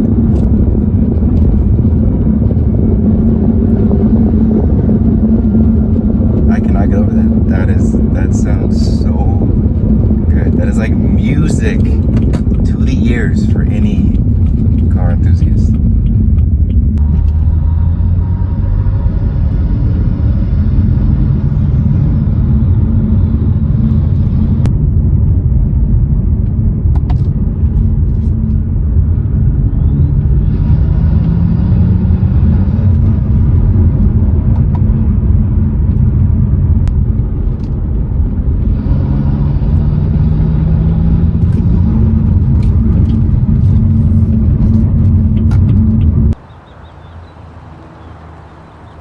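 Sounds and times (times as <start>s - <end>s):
intake and turbo rush: 0.0s - 25.4s, 27.0s - 49.0s
car engine under load: 0.0s - 49.0s.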